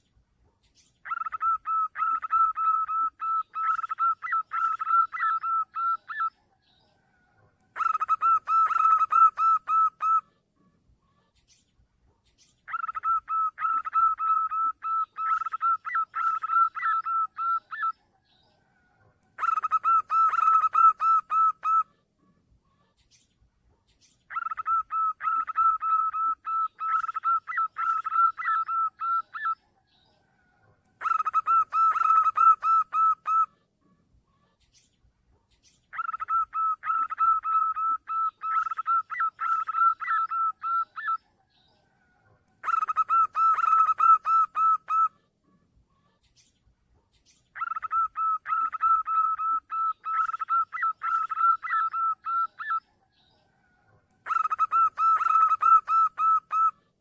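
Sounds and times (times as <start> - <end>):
dove cooing: 0.7 - 6.4, 7.0 - 10.4, 12.4 - 18.0, 18.6 - 22.0, 24.0 - 33.6, 35.6 - 45.2, 47.6 - 56.8.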